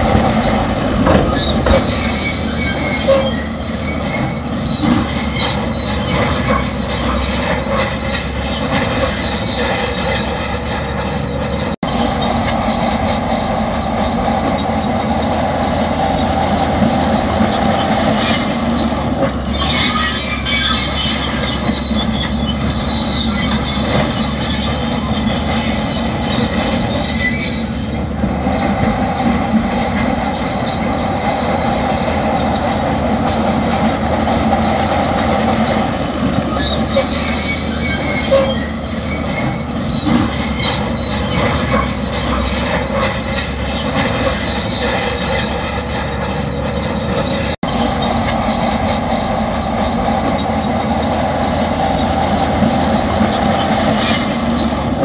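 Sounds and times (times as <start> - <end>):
diesel engine running: 0.0 - 55.0
high squeal: 0.0 - 55.0
steel tracks grinding: 0.0 - 55.0.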